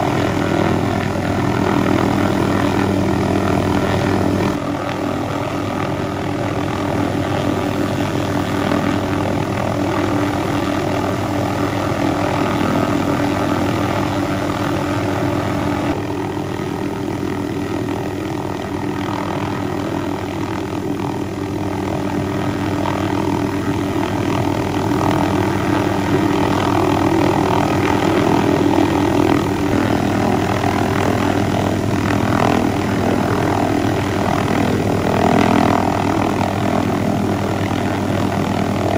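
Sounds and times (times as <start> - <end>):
helicopter engine drone: 0.0 - 38.9
helicopter rotor chop: 0.0 - 38.9.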